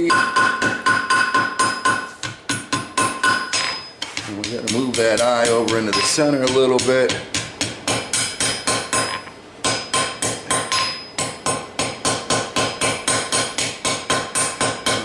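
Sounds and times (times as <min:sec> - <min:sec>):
hammer striking steel on anvil: 0:00.0 - 0:15.0.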